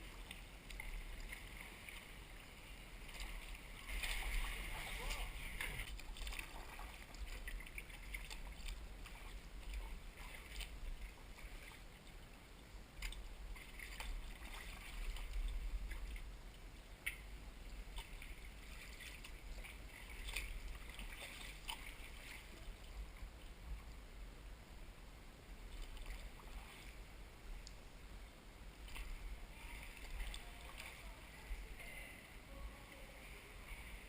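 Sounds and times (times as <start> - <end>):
water sloshing around kayak: 0.0 - 23.9, 25.6 - 27.9, 28.8 - 32.2
water dripping: 0.0 - 24.0, 25.7 - 27.9, 28.8 - 32.0.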